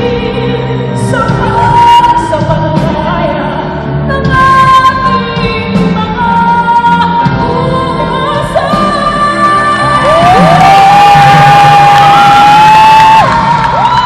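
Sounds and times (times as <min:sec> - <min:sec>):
woman singing a ballad: 0:00.0 - 0:12.4
band accompaniment: 0:00.0 - 0:14.0.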